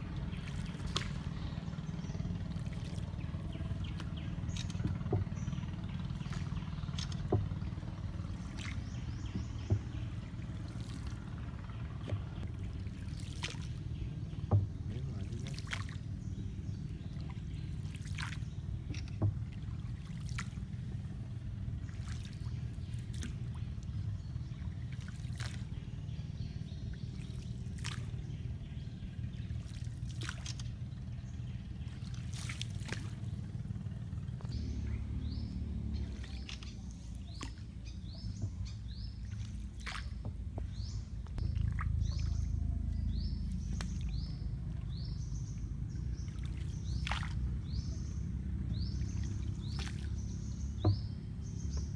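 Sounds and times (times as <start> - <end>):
birds chirping: 0.0 - 51.9
steady low rumble: 0.0 - 51.9
water dripping off paddle: 0.0 - 51.9.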